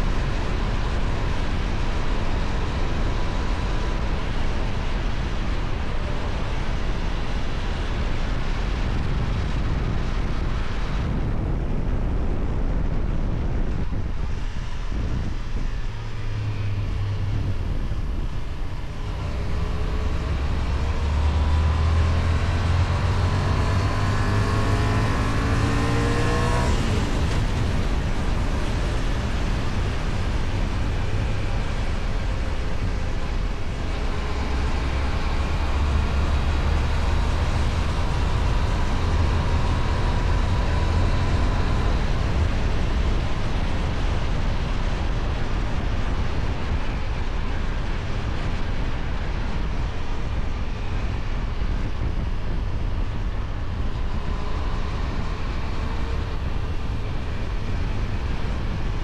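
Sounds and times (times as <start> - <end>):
wind and road noise: 0.0 - 59.0
motorcycle engine accelerating: 11.0 - 59.0.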